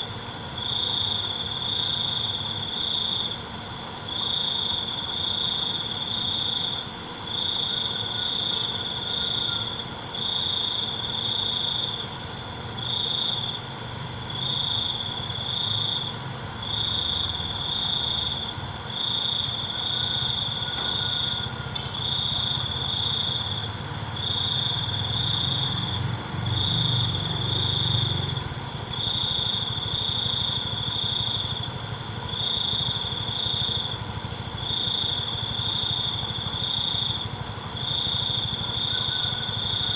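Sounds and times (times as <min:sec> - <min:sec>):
cricket trilling: 0:00.0 - 0:39.9
high-pitched insect drone: 0:00.0 - 0:39.9
pulsing insect calls: 0:00.0 - 0:39.9.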